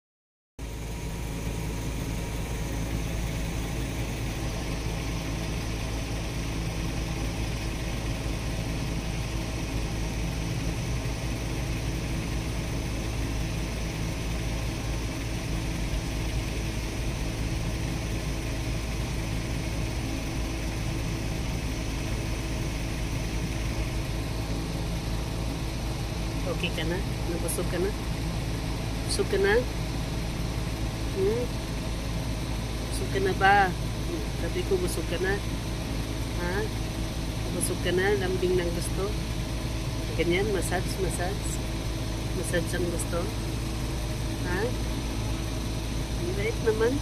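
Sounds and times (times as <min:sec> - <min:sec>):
low mechanical drone: 0:00.6 - 0:47.0.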